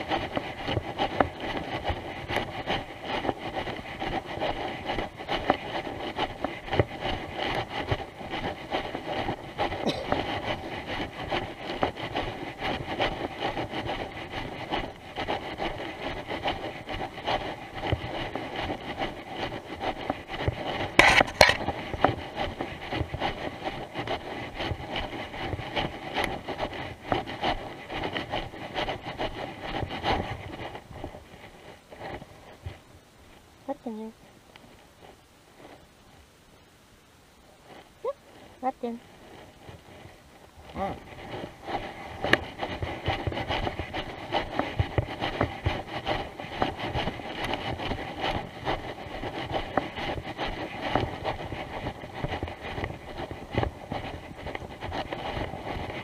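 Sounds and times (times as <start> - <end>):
jacket fabric rubbing on camera: 0.0 - 36.3, 37.4 - 56.0.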